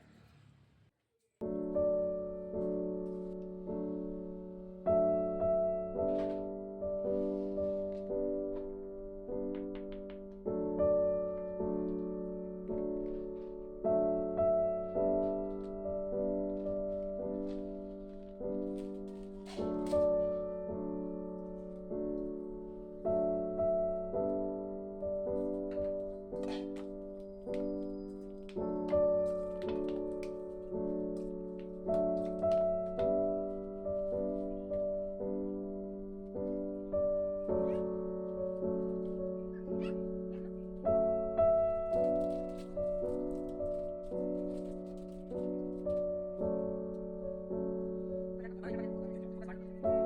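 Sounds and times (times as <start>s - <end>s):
gentle piano melody: 1.4s - 50.0s.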